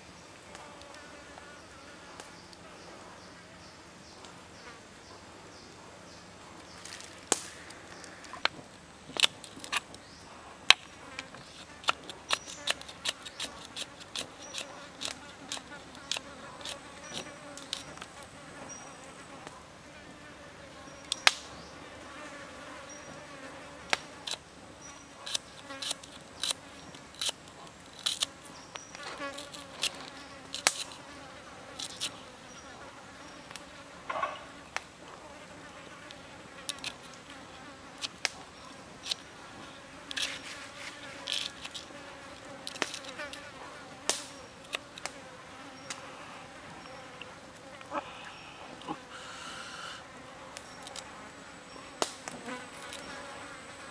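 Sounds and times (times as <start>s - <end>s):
insect buzz: 0.0s - 53.9s.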